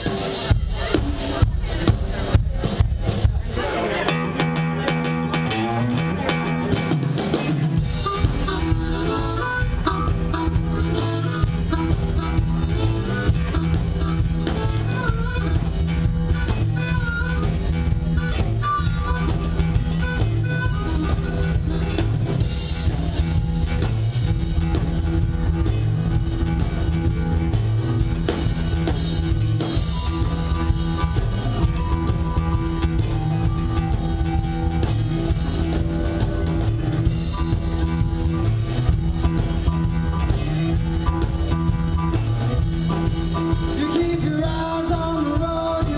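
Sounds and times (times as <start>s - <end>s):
rock blues band playing: 0.0s - 45.9s
harmonica wailing: 7.8s - 24.2s, 25.0s - 45.8s.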